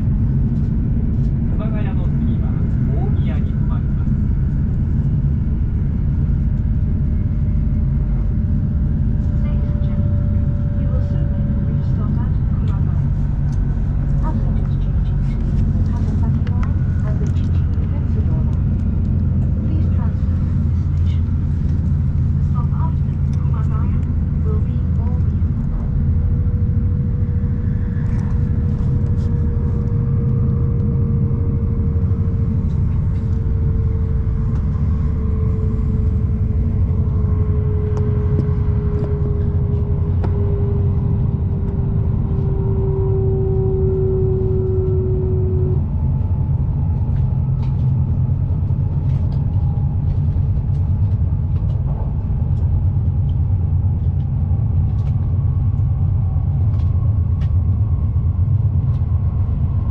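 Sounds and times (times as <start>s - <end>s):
train rumbling at speed: 0.0s - 59.9s.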